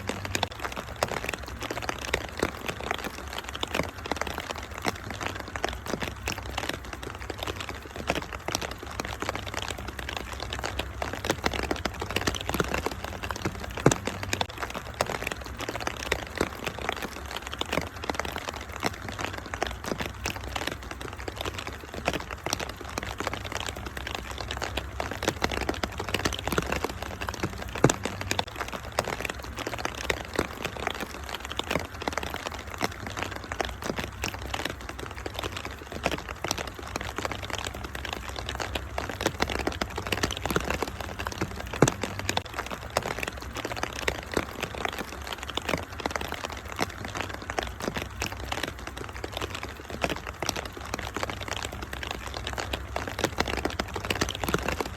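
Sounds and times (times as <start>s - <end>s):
fire popping: 0.0s - 54.9s
rain patter: 0.0s - 54.9s
wood fire crackling: 0.0s - 54.9s.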